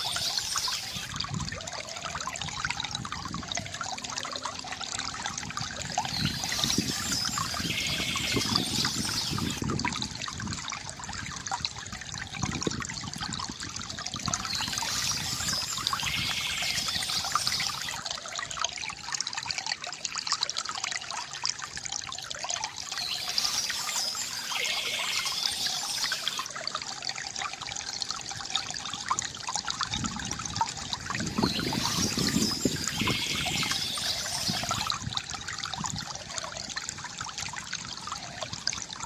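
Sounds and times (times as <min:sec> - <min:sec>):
fountain water trickling: 0:00.0 - 0:39.0.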